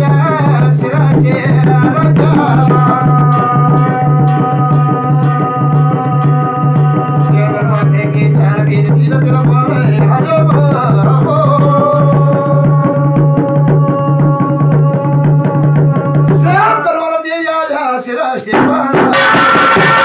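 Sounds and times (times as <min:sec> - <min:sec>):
double-headed drum beating: 0:00.0 - 0:16.9, 0:18.5 - 0:20.0
man singing: 0:00.0 - 0:20.0.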